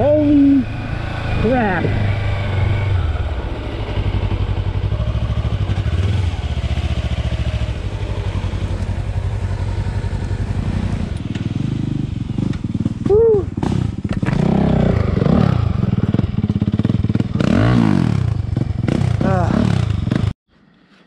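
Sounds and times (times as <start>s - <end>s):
motorcycle engine under load: 0.0s - 20.4s.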